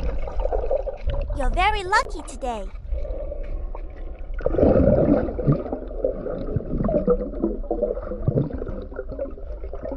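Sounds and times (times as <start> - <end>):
underwater gurgling and bubbling: 0.0 - 9.9.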